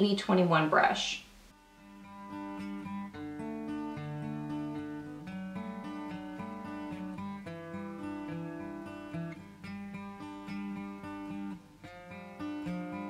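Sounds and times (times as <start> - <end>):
acoustic guitar picking: 1.7 - 13.0.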